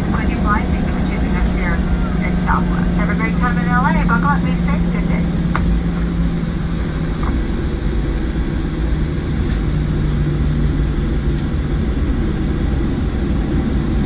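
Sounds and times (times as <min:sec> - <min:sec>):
low cabin hum: 0:00.0 - 0:13.7
jet engine rumble and hiss: 0:00.0 - 0:14.0.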